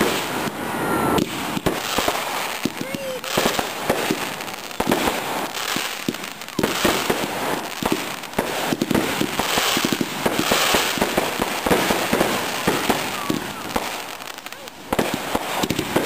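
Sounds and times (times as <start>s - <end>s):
fireworks hissing rush: 0.0s - 16.0s
fireworks reports and crackling: 0.0s - 16.0s.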